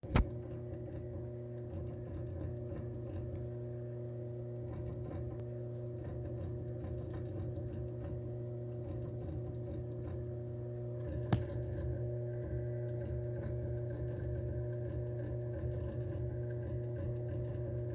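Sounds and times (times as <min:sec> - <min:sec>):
hard drive droning: 0:00.0 - 0:17.9.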